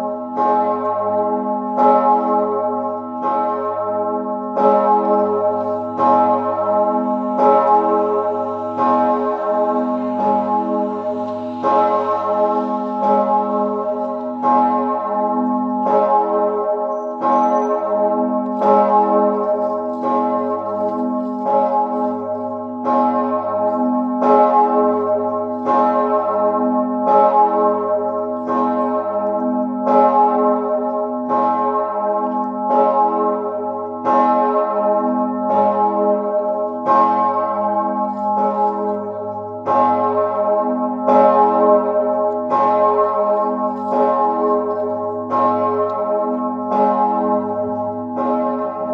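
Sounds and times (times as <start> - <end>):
large church bell ringing: 0.0 - 48.9.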